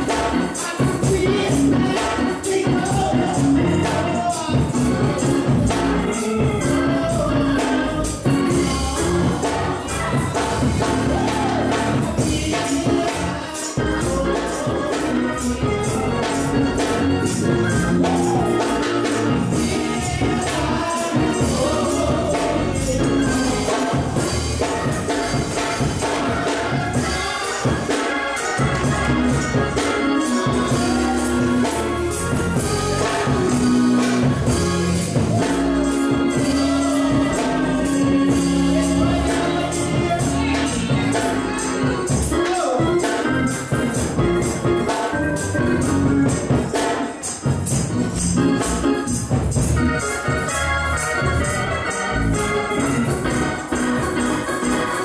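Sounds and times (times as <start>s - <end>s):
drum kit: 0.0s - 55.0s
shaken tambourine: 0.0s - 55.0s.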